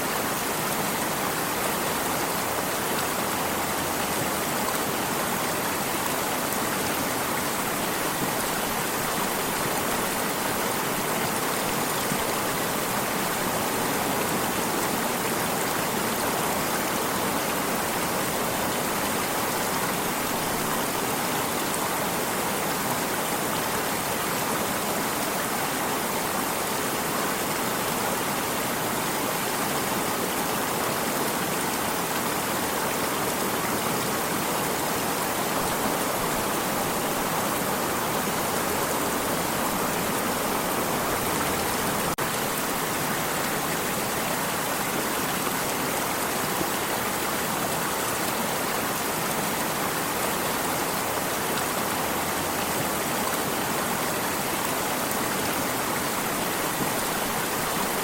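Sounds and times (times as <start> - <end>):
stream babbling over rocks: 0.0 - 58.0.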